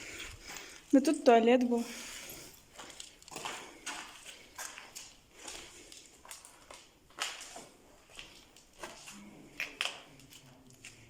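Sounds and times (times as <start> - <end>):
footsteps and scuffs: 0.0 - 11.0.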